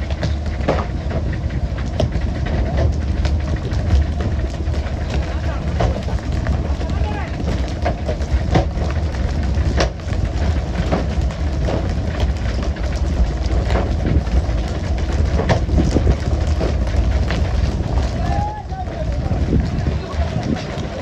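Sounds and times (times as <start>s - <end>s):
boat engine droning: 0.0s - 21.0s
water spray and wind: 1.4s - 21.0s.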